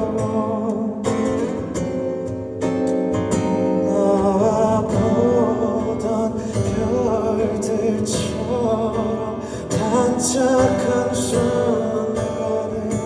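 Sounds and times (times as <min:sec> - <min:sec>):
live band music with acoustic guitar: 0:00.0 - 0:13.0.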